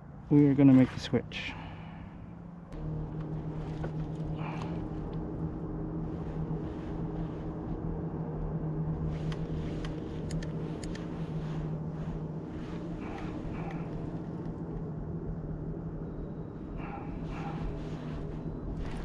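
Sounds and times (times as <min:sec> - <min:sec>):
steady motor hum: 0:01.5 - 0:19.0.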